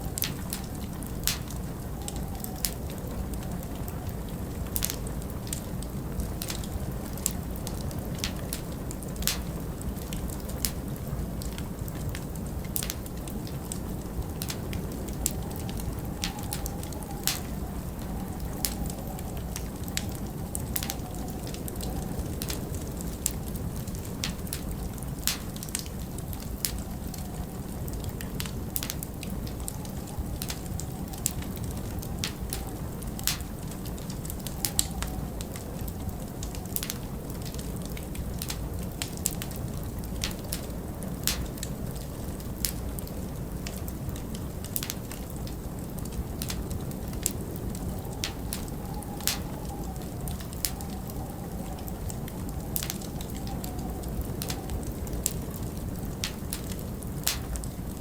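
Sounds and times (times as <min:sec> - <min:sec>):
faint wind howl: 0:00.0 - 0:58.0
wood fire crackling and popping: 0:00.0 - 0:58.0.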